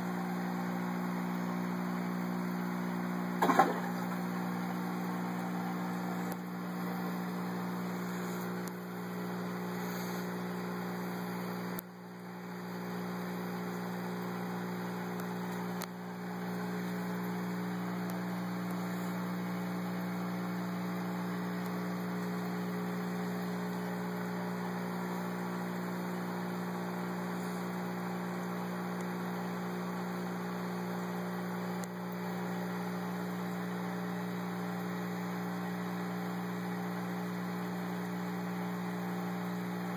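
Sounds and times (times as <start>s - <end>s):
aquarium filter hum: 0.0s - 39.9s.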